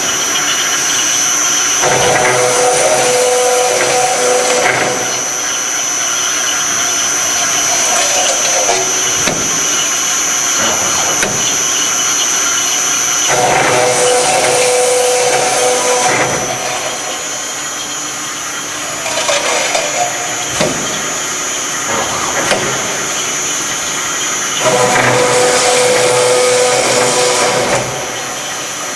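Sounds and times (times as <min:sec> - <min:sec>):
metal-cutting saw whine: 0:00.0 - 0:28.9.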